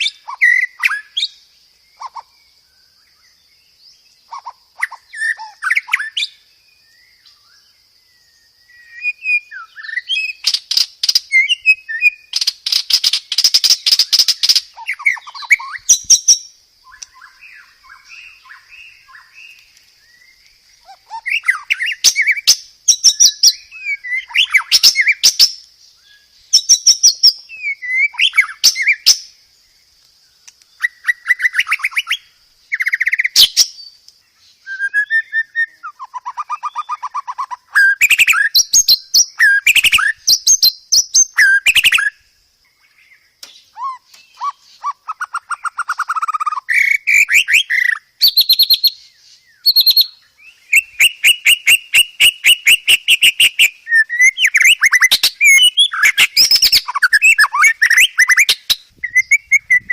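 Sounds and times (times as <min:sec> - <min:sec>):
songbird singing varied song: 0:00.0 - 0:59.9.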